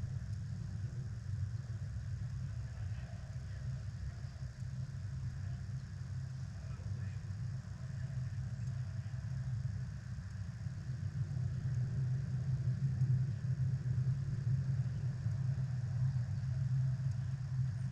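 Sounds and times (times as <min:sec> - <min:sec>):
steady low rumble: 0:00.0 - 0:17.9.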